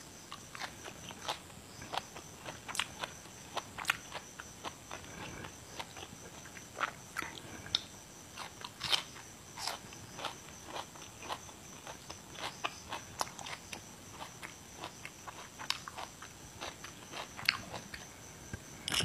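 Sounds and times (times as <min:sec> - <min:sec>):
crunching raw vegetables: 0:00.3 - 0:19.0.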